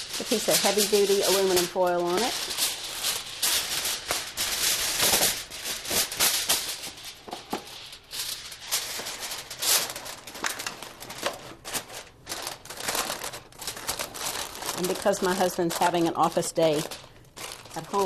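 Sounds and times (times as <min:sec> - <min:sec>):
aluminum foil crinkling: 0:00.0 - 0:18.0.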